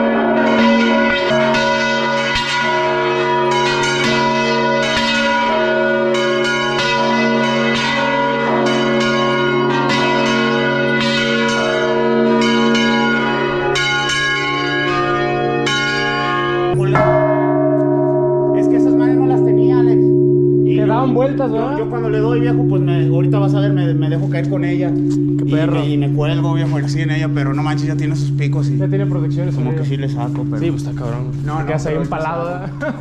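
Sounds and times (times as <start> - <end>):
church bells pealing: 0.0 - 33.0
deep bell hum: 0.0 - 33.0.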